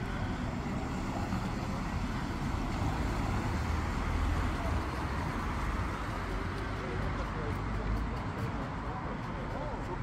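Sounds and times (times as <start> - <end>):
car driving on wet street: 0.0 - 10.0
steady traffic noise: 0.0 - 10.0.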